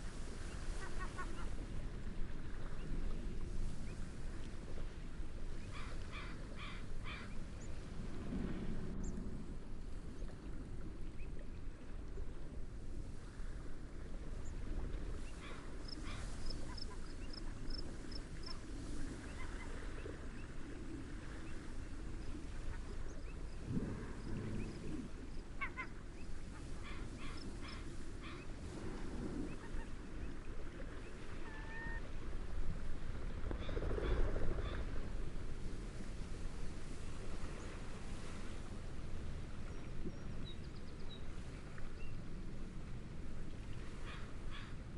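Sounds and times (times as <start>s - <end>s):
gentle waves: 0.0s - 44.9s
wind: 0.0s - 44.9s.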